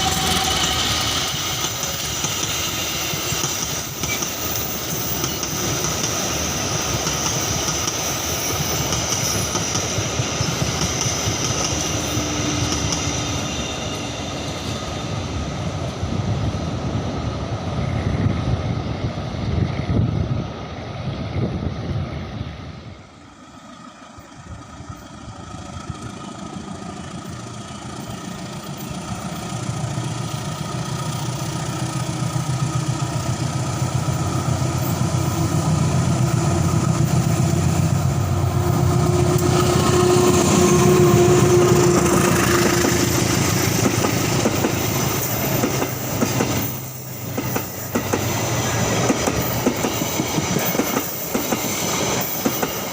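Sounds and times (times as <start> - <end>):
train running past: 0.0 - 52.9.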